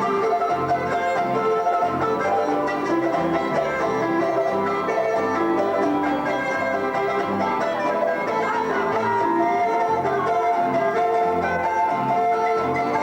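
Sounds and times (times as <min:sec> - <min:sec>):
bowed string melody: 0:00.0 - 0:13.0
plucked strings: 0:00.0 - 0:13.0.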